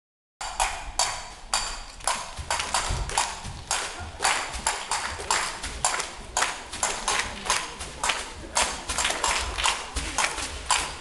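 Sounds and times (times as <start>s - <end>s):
metallic percussion strikes: 0.4s - 11.0s.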